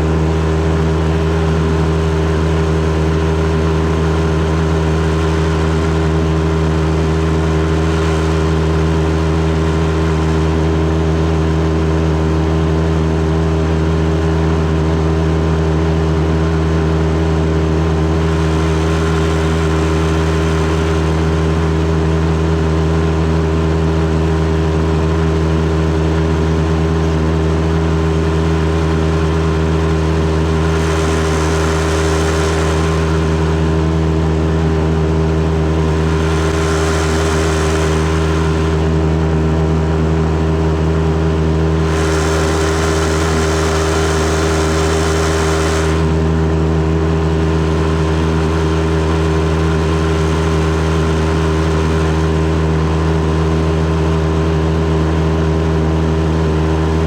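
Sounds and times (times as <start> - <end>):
outboard motor drone: 0.0 - 57.0.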